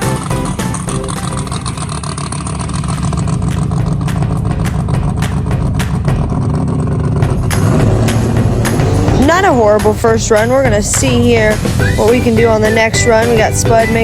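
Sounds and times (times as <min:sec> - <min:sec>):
loud drag racing engine: 0:00.2 - 0:11.8.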